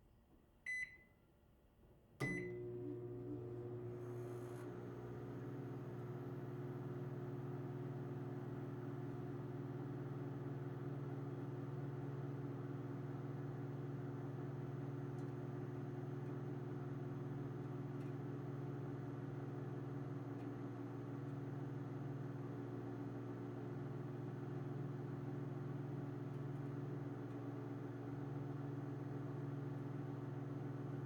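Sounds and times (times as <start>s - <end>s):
microwave oven humming: 2.2s - 31.0s.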